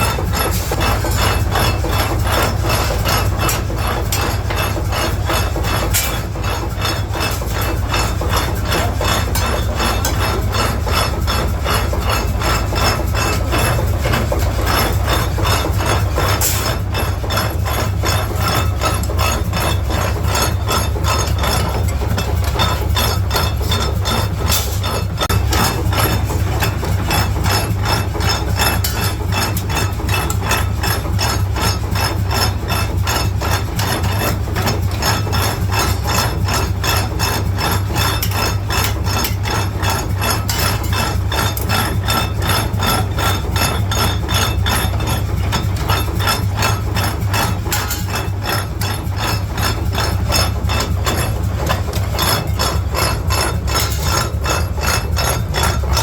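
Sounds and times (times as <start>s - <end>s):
rapid machine knocks: 0.0s - 56.0s
steady low machine hum: 0.0s - 56.0s.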